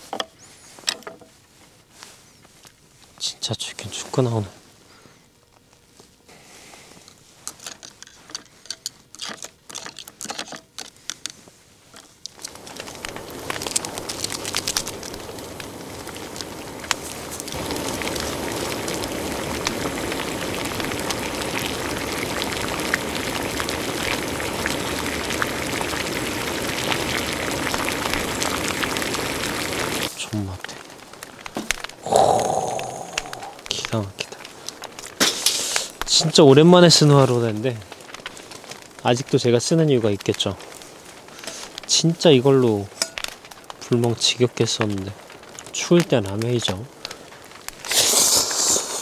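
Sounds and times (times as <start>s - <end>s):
fire hissing and crackling: 0.0s - 49.0s.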